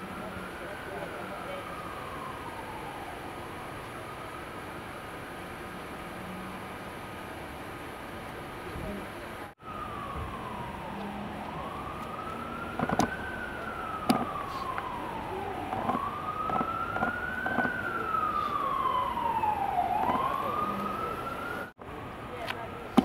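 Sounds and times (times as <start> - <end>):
emergency vehicle siren wailing: 0.0 - 23.0.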